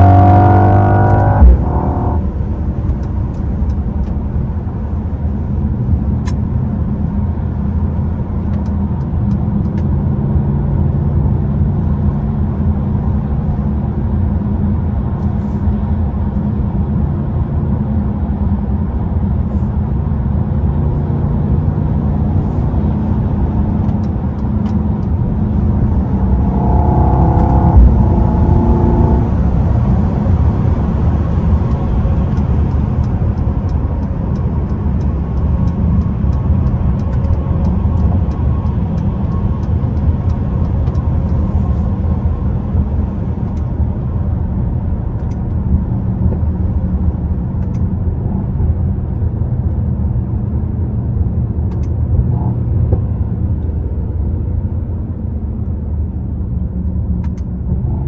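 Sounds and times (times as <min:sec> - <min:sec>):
tyre and road noise: 0:00.0 - 0:11.0, 0:11.9 - 0:58.0
car engine low drone: 0:00.0 - 0:58.0.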